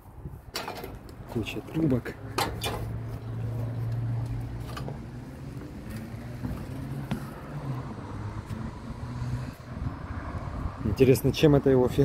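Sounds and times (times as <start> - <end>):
engine humming: 0.5 - 10.7.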